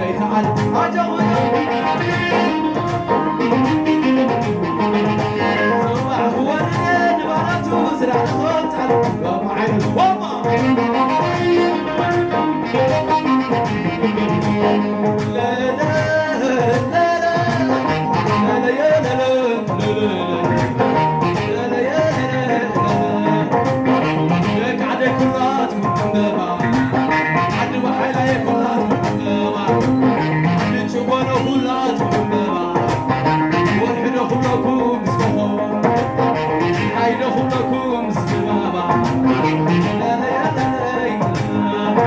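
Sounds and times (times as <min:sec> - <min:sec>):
man singing: 0:00.0 - 0:42.0
saxophone: 0:00.0 - 0:42.0
steady driving beat: 0:00.0 - 0:42.0.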